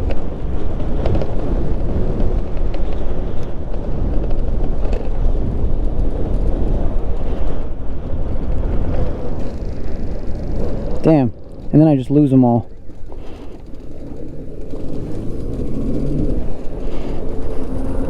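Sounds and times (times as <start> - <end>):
road rumble: 0.0 - 18.0.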